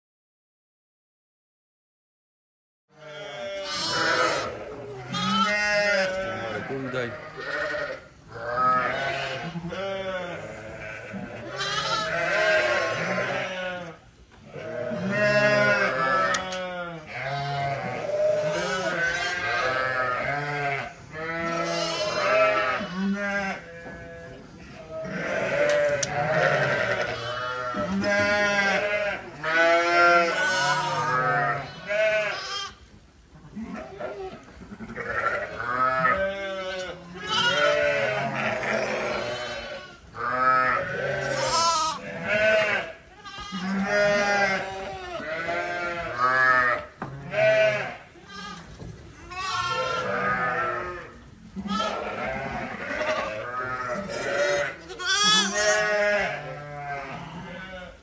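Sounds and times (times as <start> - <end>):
lambs bleating: 2.9 - 32.9, 33.5 - 58.0.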